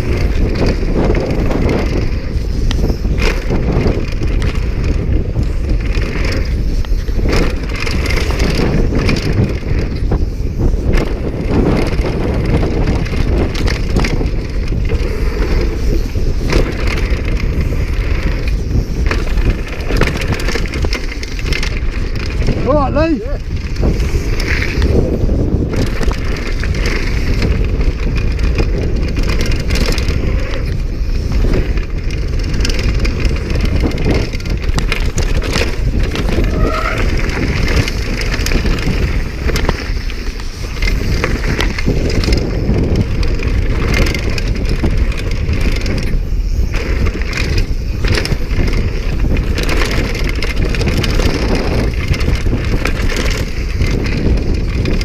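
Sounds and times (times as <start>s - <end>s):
mountain bike rattling over trail: 0.0s - 55.0s
tyre noise on dirt: 0.0s - 55.0s
wind on microphone: 0.0s - 55.0s.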